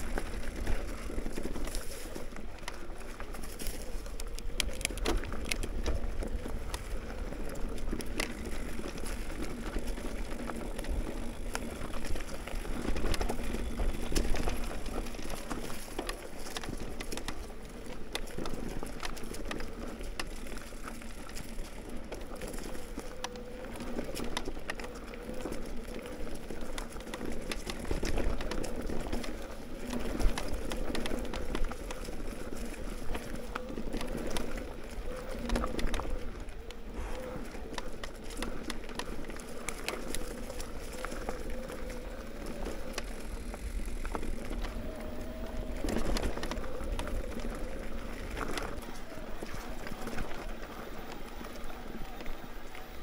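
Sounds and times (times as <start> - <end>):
bike clattering and rattling: 0.0 - 53.0
bike tyre noise on dirt: 0.0 - 53.0.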